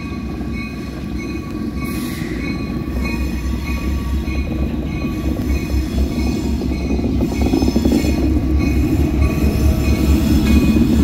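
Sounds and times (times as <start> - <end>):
diesel locomotive engine throb: 0.0 - 11.0.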